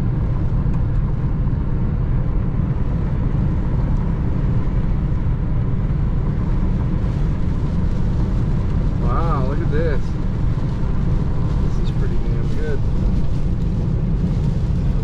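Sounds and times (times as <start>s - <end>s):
car road noise inside cabin: 0.0s - 15.0s.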